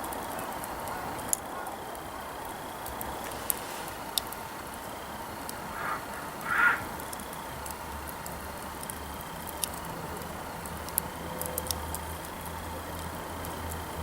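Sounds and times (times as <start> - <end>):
campfire crackling and popping: 0.0 - 14.0
low steady rumble: 0.0 - 14.0.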